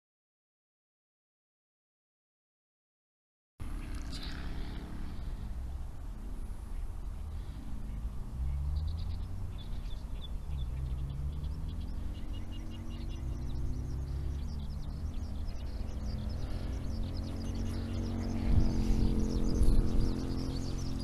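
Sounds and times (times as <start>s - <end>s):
passing vehicle drone: 3.6s - 21.0s
small birds chirping: 3.6s - 21.0s
wind rumble on microphone: 3.6s - 21.0s.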